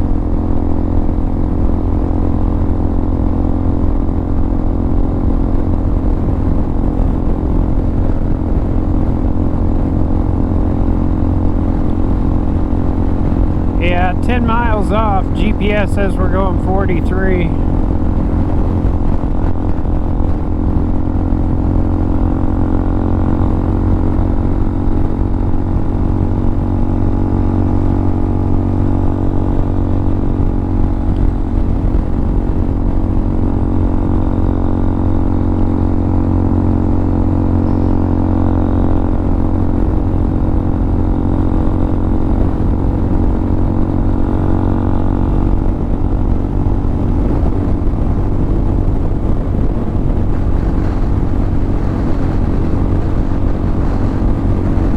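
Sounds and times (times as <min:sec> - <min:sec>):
motorcycle engine cruising: 0:00.0 - 0:54.9
road and wind rumble: 0:00.0 - 0:54.9.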